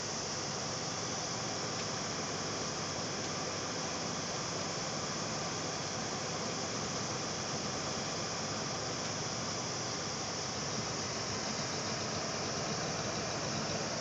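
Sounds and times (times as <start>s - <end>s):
computer fans whirring: 0.0s - 14.0s.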